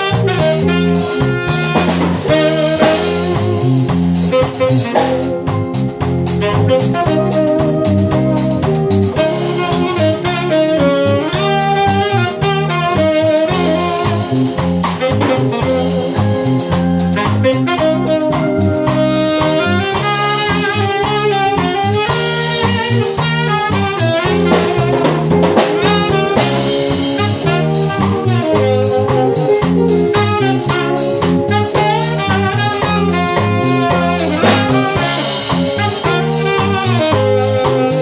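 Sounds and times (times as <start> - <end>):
drum kit steady beat: 0.0 - 38.0
guitar: 0.0 - 38.0
keyboard: 0.0 - 38.0
saxophone melody: 0.0 - 38.0.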